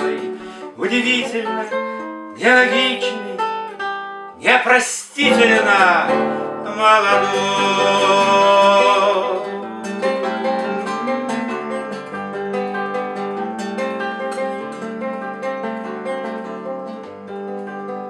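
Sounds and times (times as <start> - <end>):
acoustic guitar picked notes: 0.0 - 18.0.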